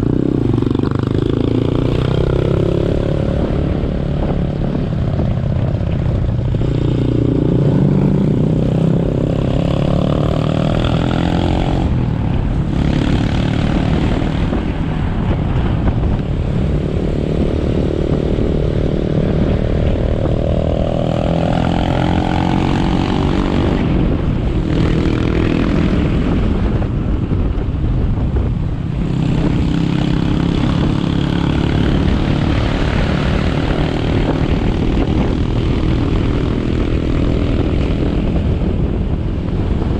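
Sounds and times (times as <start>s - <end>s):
motorcycle engine accelerating: 0.0s - 39.9s
road noise: 0.0s - 39.9s.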